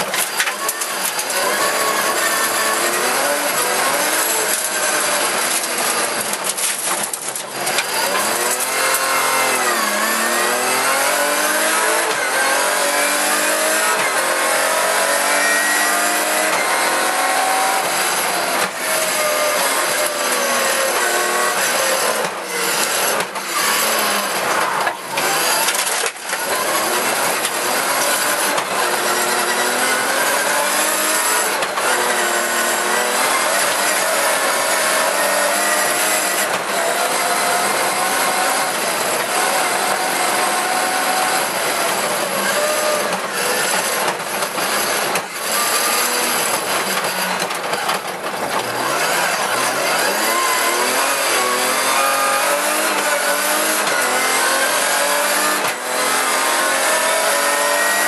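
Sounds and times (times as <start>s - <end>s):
rally car engine at full throttle: 0.0s - 58.0s.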